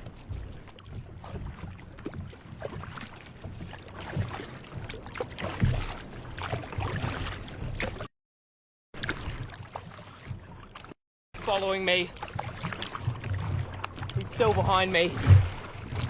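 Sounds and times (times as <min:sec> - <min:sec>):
paddle strokes splashing water: 0:00.0 - 0:08.1, 0:09.0 - 0:16.0.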